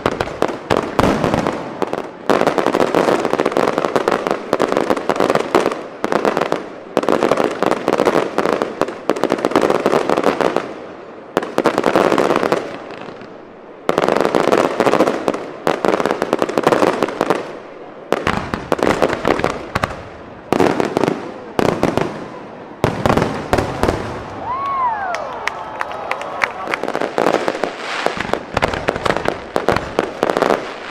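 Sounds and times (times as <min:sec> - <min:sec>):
fireworks crackling: 0:00.0 - 0:30.9.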